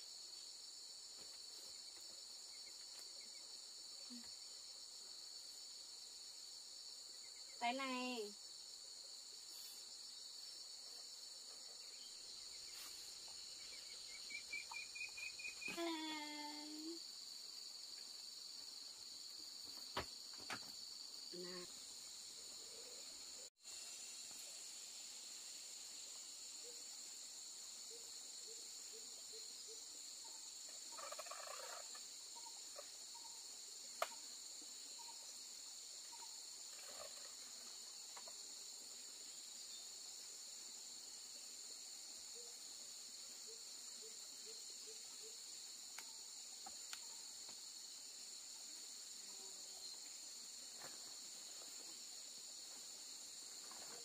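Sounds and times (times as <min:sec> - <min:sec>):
insects chorus ringing: 0:04.4 - 0:09.2, 0:11.8 - 0:54.0.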